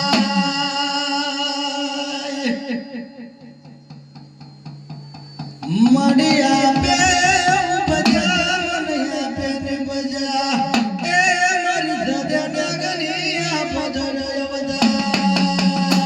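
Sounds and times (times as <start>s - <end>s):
person singing: 0.0s - 3.4s, 5.6s - 16.0s
drums: 0.0s - 16.0s.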